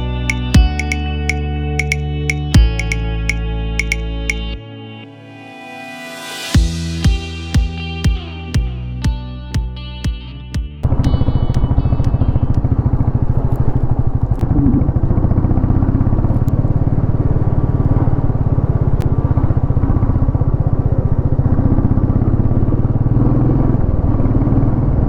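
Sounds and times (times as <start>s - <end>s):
motorcycle engine throbbing: 0.0s - 4.6s, 6.5s - 25.0s.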